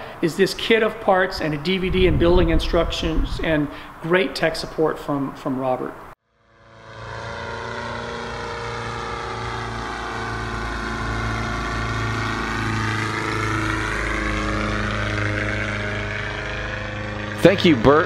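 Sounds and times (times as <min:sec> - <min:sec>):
biplane engine and propeller drone: 0:00.0 - 0:04.0, 0:06.3 - 0:18.0.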